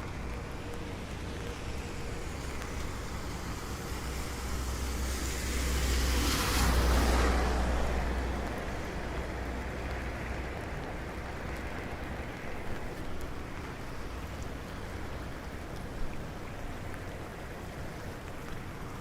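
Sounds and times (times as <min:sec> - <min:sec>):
rain: 0:00.0 - 0:19.0
vehicle tyres hissing on wet road: 0:00.0 - 0:19.0.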